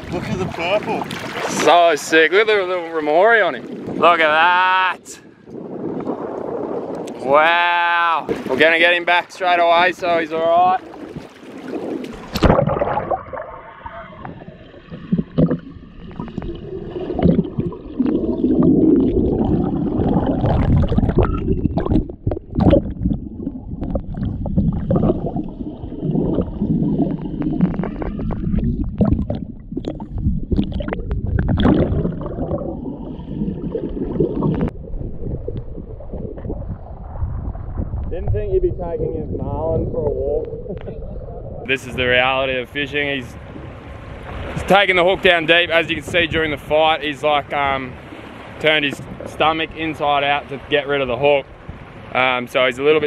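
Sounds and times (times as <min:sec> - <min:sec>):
water gurgling and splashing: 0:00.0 - 0:04.8, 0:05.6 - 0:53.0.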